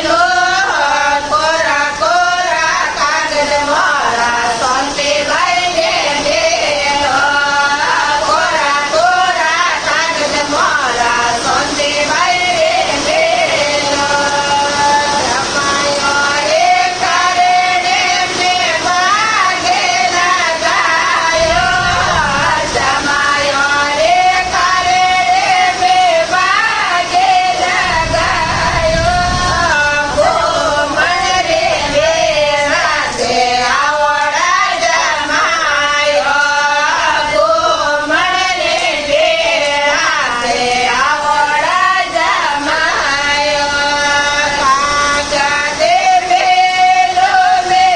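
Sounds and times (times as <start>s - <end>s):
women singing folk song: 0.0s - 47.9s.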